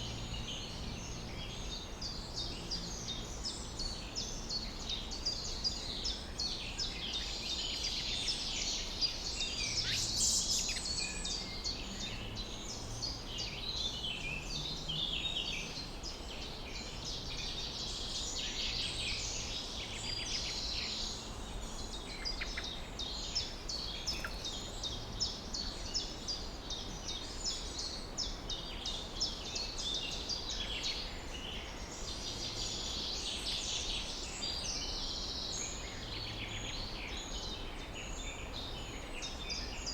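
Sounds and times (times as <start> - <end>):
low background noise: 0.0 - 39.9.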